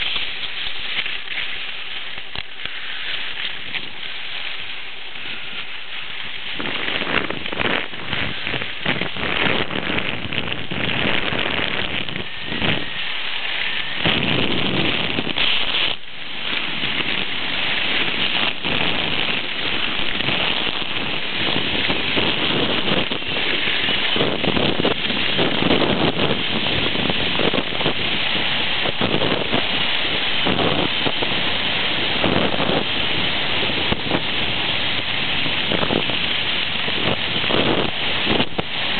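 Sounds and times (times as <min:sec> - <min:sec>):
skis scraping over snow: 0:00.0 - 0:38.9
wind on microphone: 0:00.0 - 0:38.9.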